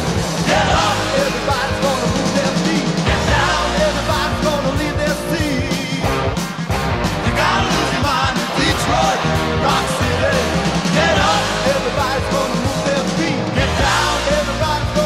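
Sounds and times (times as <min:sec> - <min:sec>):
rock song with lead vocal: 0:00.0 - 0:15.0.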